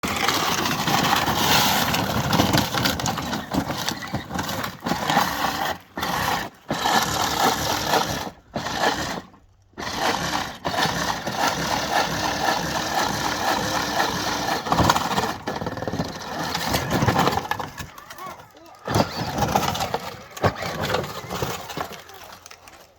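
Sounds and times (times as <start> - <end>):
plastic wheels crunching on gravel: 0.0 - 22.9
small electric motors whining: 0.0 - 22.9.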